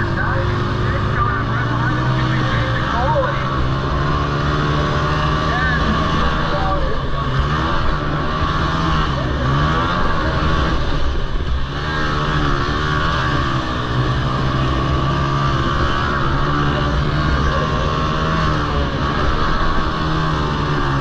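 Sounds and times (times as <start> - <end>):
quad bike engines revving: 0.0 - 21.0.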